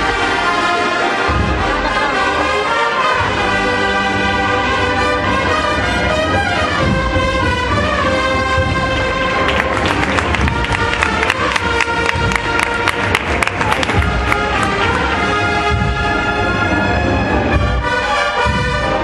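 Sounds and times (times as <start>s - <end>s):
brass band playing a march: 0.0s - 19.0s.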